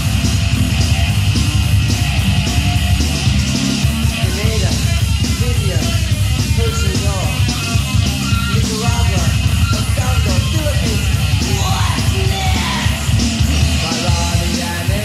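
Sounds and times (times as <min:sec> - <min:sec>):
bass guitar: 0:00.0 - 0:15.0
distorted electric guitars: 0:00.0 - 0:15.0
drums fast beat: 0:00.0 - 0:15.0.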